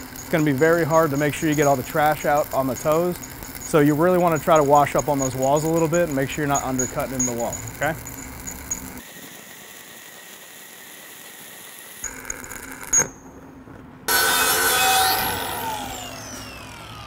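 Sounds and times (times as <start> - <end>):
angle grinder whining: 0.0 - 13.2, 14.1 - 17.0.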